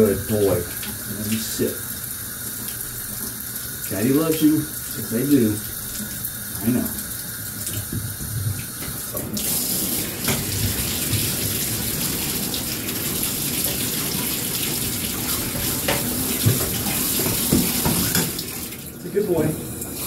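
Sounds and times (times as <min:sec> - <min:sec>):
tap water pouring into bathtub: 0:00.0 - 0:20.0.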